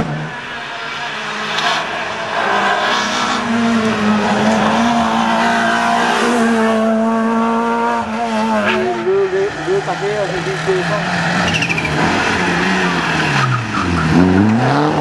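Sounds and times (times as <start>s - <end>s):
rally car engines at high revs: 0.0s - 15.0s.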